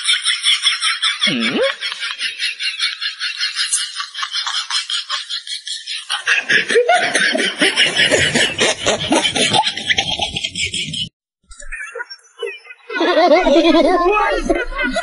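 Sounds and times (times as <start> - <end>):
person snickering and laughing: 0.0 - 11.1, 12.9 - 15.0.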